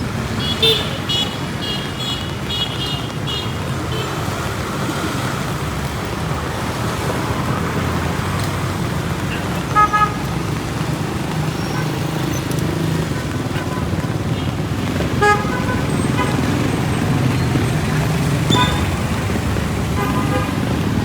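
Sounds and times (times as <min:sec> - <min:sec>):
traffic engines running: 0:00.0 - 0:21.0.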